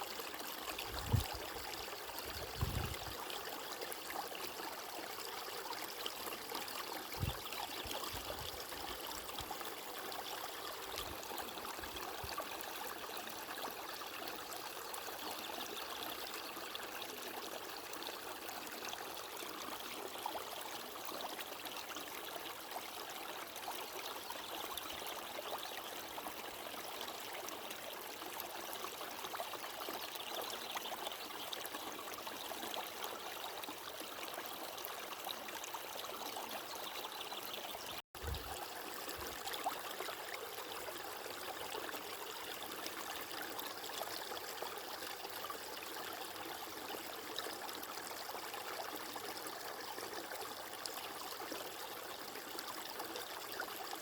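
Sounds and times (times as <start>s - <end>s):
stream water rushing and trickling: 0.0s - 54.0s.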